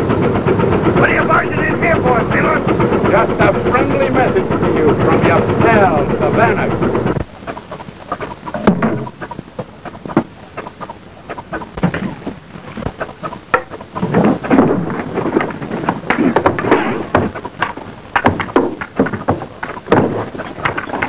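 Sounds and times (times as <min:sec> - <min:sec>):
knocks and thumps: 0:00.0 - 0:21.0
rushing noise: 0:00.0 - 0:21.0.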